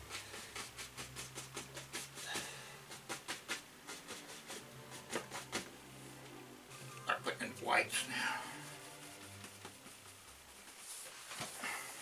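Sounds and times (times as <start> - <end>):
brush scrubbing on canvas: 0.0 - 5.7, 8.0 - 12.0.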